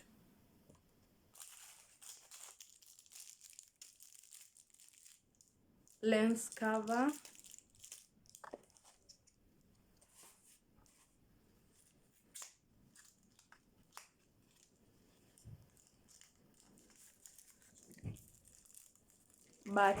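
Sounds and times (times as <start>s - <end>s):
plastic packaging rustling: 1.3s - 9.4s, 11.7s - 20.0s.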